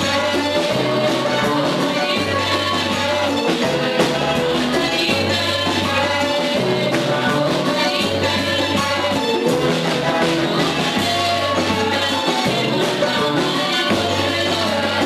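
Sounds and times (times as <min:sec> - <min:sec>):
keyboard accompaniment: 0:00.0 - 0:15.0
women's gospel choir singing: 0:00.0 - 0:15.0.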